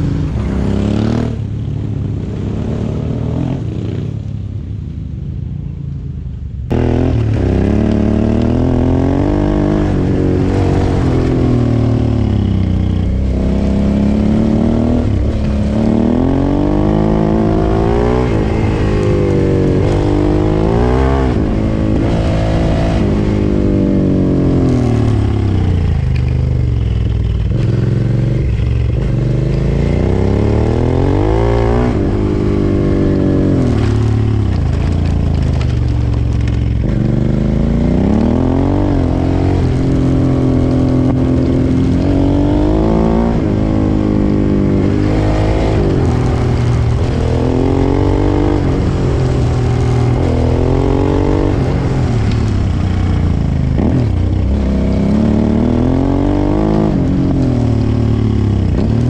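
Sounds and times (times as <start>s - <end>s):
motorcycle engine revving: 0.0s - 4.2s, 6.7s - 59.0s.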